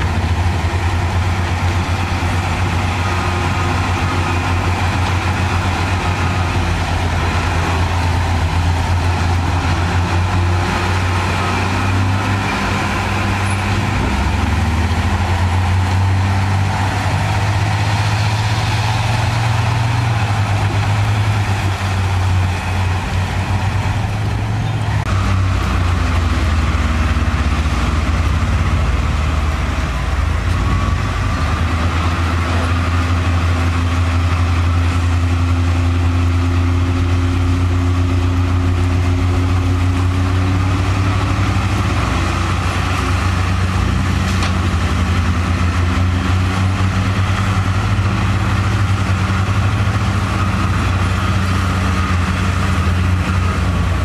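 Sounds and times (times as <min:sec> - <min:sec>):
diesel machinery engine hum: 0:00.0 - 0:54.0.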